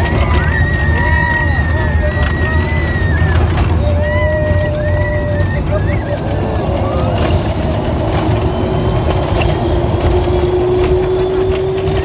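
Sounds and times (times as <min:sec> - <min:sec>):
steady whine rising in pitch: 0:00.0 - 0:12.0
wheels rumbling on track: 0:00.0 - 0:12.0.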